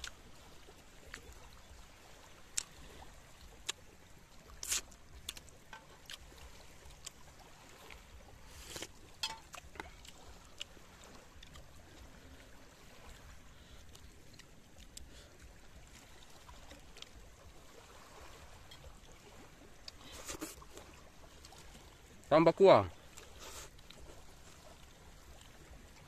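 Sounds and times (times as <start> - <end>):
small waves lapping shoreline: 0.0 - 26.0.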